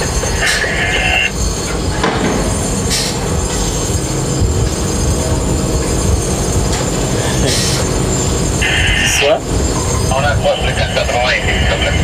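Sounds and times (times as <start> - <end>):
crane cab rumble and rattle: 0.0 - 12.0.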